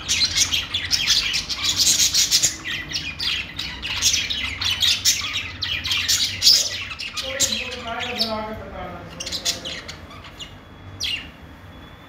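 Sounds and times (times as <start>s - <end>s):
budgerigars chirping and chattering: 0.0s - 11.4s.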